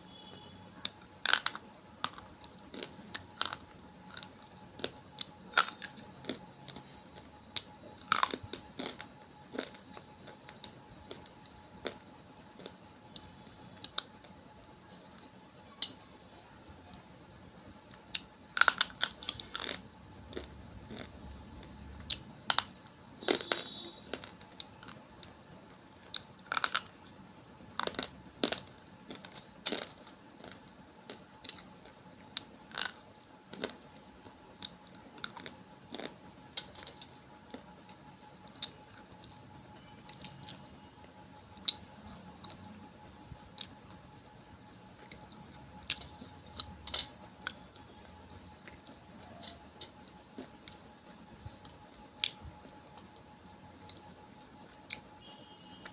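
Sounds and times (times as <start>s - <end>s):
faint steady hum: 0.0s - 55.9s
brittle food crunching: 0.1s - 16.0s, 17.9s - 25.4s, 26.0s - 42.8s, 43.4s - 55.9s.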